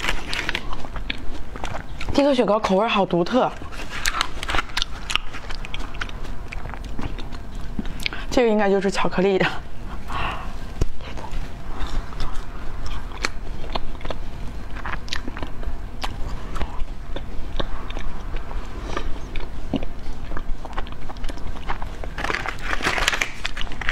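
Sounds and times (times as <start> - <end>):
biting and chewing ice cream bar: 0.0 - 8.3, 10.4 - 23.9.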